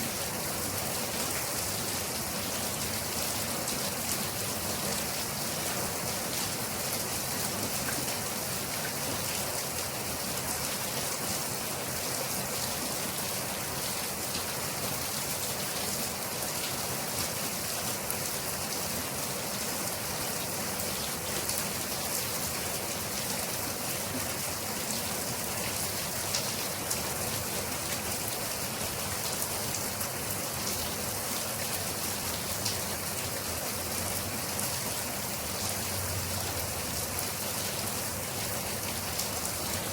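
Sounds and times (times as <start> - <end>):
steady rain hiss: 0.0 - 39.9
raindrops pattering on a surface: 0.4 - 39.9.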